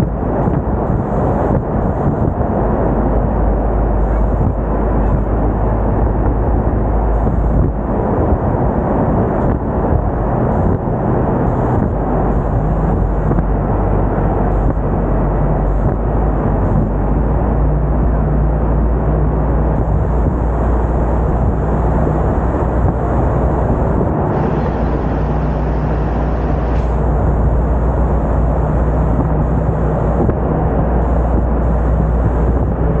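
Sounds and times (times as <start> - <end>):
bus engine and road roar: 0.0 - 33.0.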